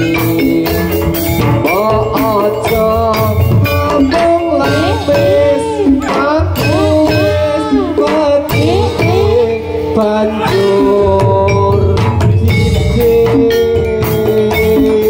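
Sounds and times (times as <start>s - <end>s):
hand drums beat: 0.0s - 15.0s
wavering melody: 0.0s - 15.0s.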